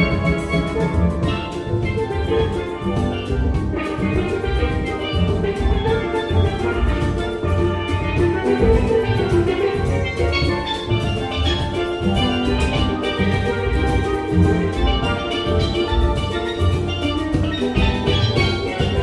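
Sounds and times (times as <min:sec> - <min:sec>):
drum kit: 0:00.0 - 0:19.0
steel band playing: 0:00.0 - 0:19.0.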